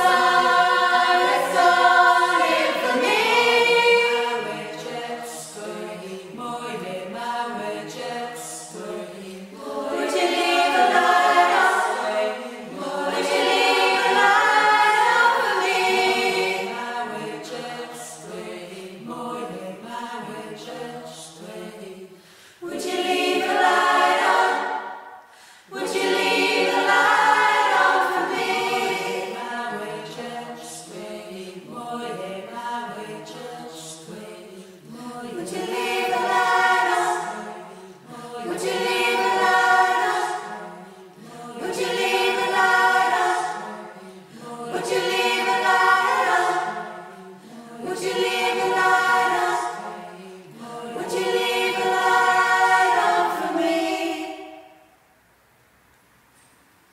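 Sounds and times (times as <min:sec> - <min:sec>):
choir singing slow chords: 0:00.0 - 0:55.2.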